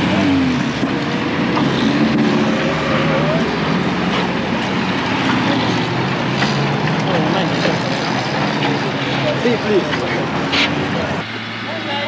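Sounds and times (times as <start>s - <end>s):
off-road engines revving: 0.0s - 12.0s.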